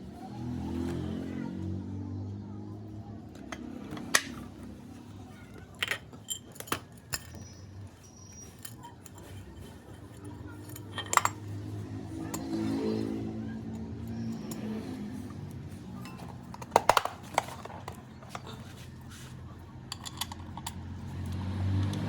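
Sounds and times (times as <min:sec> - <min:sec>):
metal tools clinking and knocking: 0:03.4 - 0:21.4.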